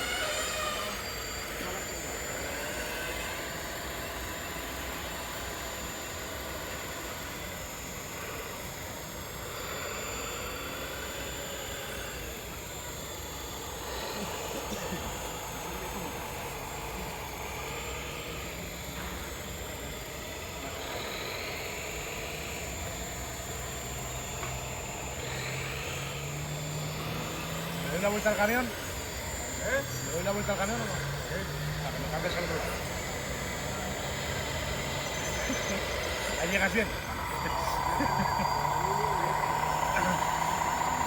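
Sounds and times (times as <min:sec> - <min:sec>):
low engine-like hum: 0:00.0 - 0:41.0
small electric motors whining: 0:00.0 - 0:41.0
steady background noise: 0:00.0 - 0:41.0.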